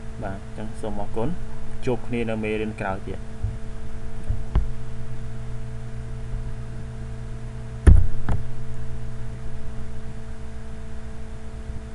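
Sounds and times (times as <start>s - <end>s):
electrical hum: 0.0s - 11.9s.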